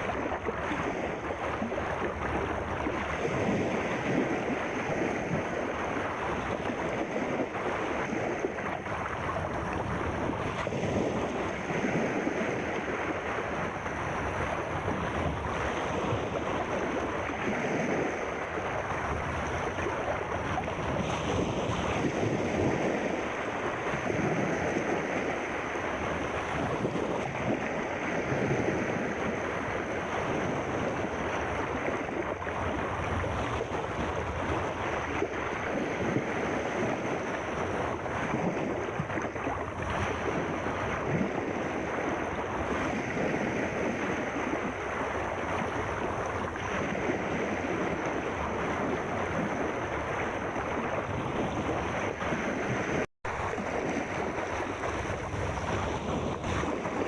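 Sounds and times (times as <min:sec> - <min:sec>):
sea surf washing in: 0:00.0 - 0:57.0.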